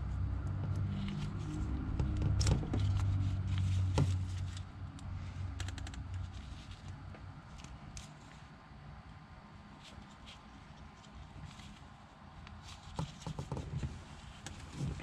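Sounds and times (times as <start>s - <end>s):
low hum: 0.0s - 12.1s.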